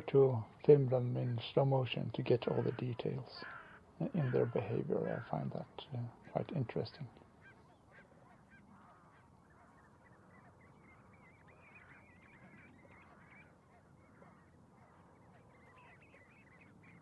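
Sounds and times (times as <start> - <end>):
flock of birds calling: 0.0 - 17.0.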